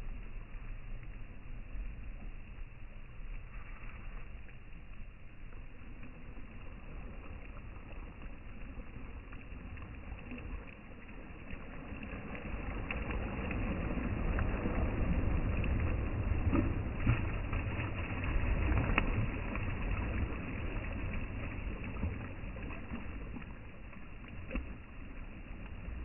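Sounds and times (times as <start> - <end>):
sea waves washing on shore: 0.0 - 26.0.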